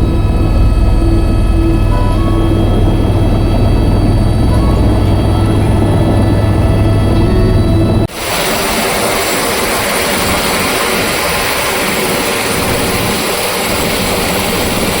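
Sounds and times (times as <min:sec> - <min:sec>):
helicopter engine and rotors: 0:00.0 - 0:15.0.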